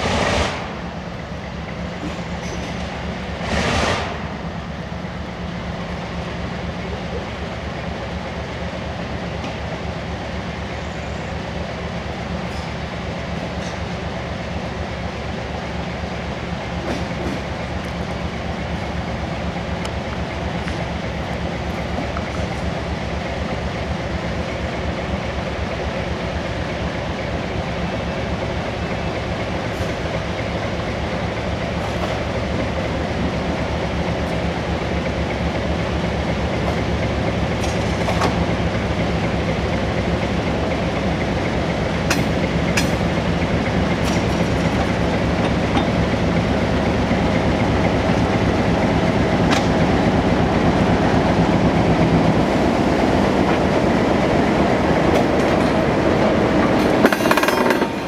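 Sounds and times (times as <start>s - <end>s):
diesel locomotive engine running: 0.0s - 58.0s
train wheels rumbling over rails: 0.0s - 58.0s.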